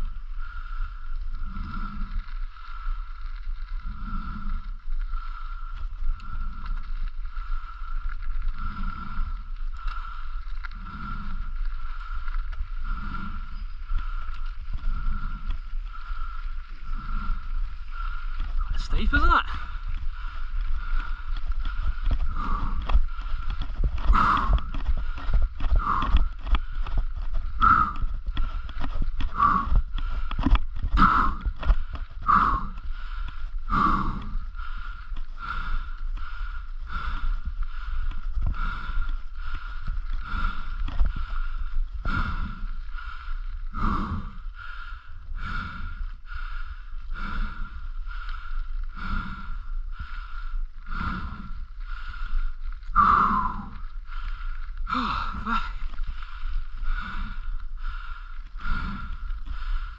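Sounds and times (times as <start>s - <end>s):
cyclist breathing hard: 0.0s - 59.9s
wind rumble on microphone: 0.0s - 59.9s.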